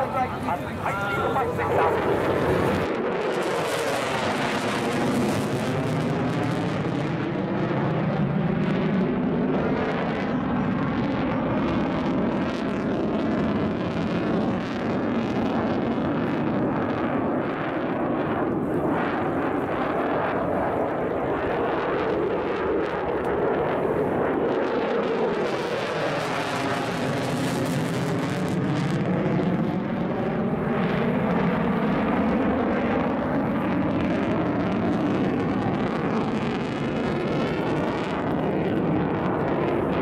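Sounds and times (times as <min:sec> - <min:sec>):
jet engine roar overhead: 0:00.0 - 0:40.0.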